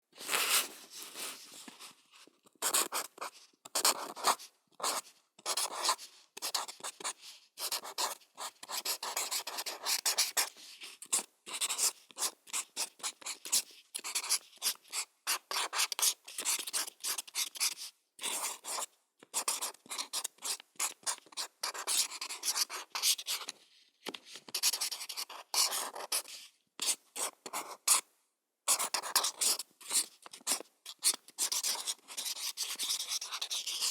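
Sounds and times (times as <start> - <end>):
felt tip pen scratching on paper: 2.6 - 23.6, 24.4 - 28.0, 28.7 - 33.9.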